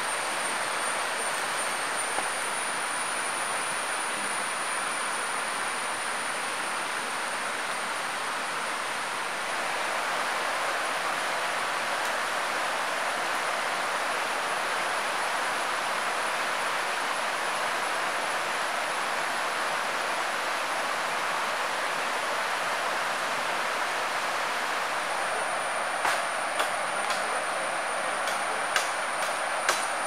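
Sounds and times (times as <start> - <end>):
stream water rushing: 5.8 - 30.0.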